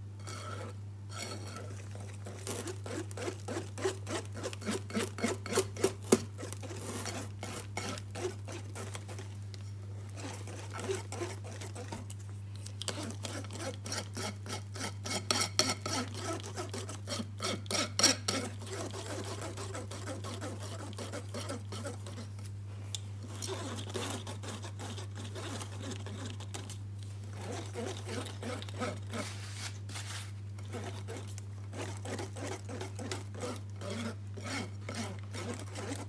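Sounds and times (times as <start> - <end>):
utensil scraping mixing bowl: 0.0 - 9.4, 10.0 - 22.5, 23.2 - 36.0.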